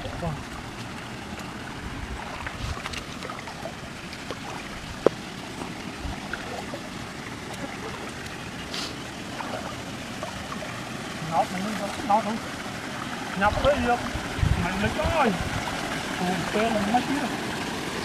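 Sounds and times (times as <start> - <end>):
water sloshing from wading: 0.0 - 18.0.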